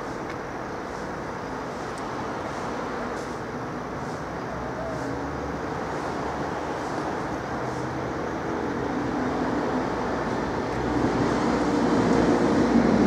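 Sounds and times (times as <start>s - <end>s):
distant vehicles rumbling: 0.0s - 13.0s.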